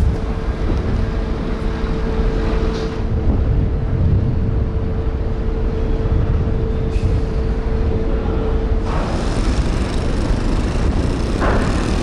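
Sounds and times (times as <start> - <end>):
mid-pitched hum: 0.0 - 12.0
ship machinery rumbling: 0.0 - 12.0
wind buffeting microphone: 0.0 - 12.0.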